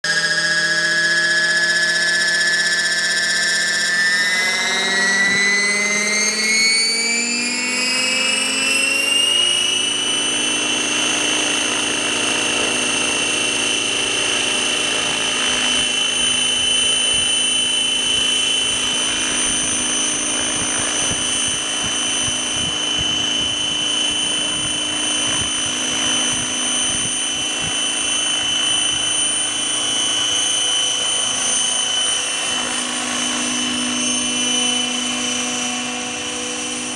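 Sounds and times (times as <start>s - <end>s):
helicopter turbine whine: 0.0s - 36.9s.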